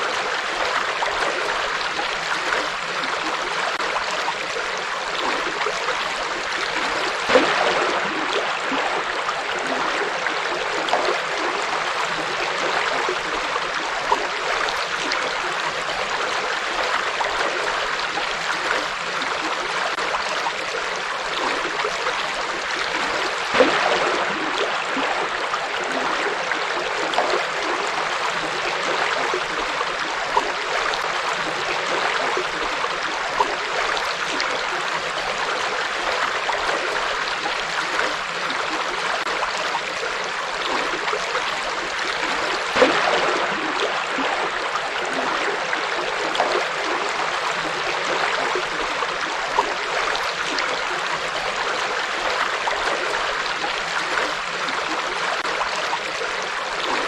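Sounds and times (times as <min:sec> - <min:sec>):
river flowing over stones: 0:00.0 - 0:57.0
water splashes: 0:00.0 - 0:57.0.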